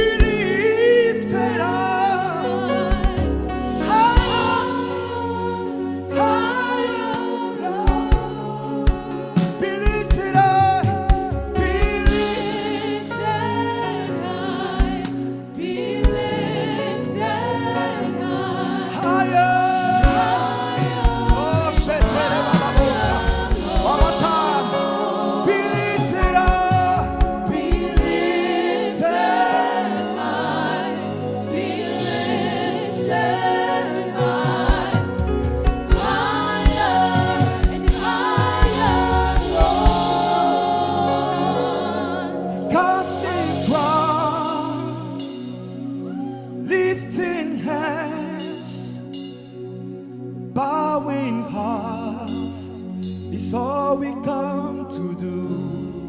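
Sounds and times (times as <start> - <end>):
band with keyboard bass and drums: 0.0 - 16.4, 18.0 - 47.3
singers with a choir: 0.0 - 56.0.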